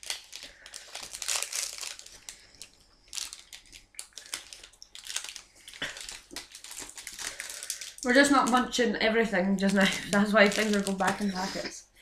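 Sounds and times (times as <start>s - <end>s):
plastic wrapper crinkling: 0.0s - 11.7s.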